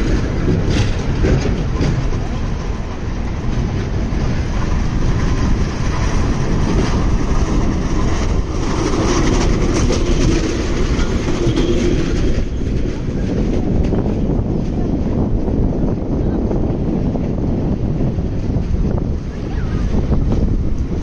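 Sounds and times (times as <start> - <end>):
tram rumbling past: 0.0 - 21.0
wheels clacking over rail joints: 0.0 - 21.0.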